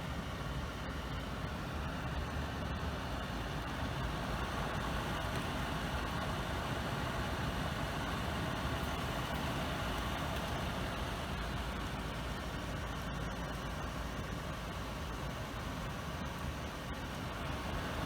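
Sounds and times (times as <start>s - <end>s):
air purifier fan rushing air: 0.0s - 18.0s.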